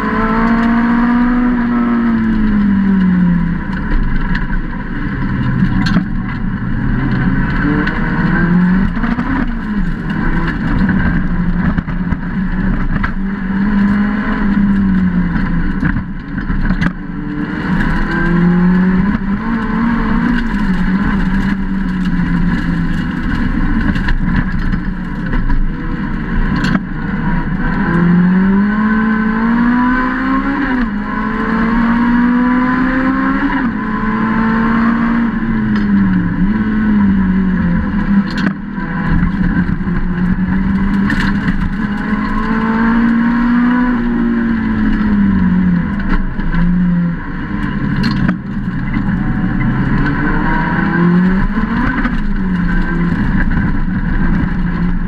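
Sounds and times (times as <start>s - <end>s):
racing car engine: 0.0s - 55.0s.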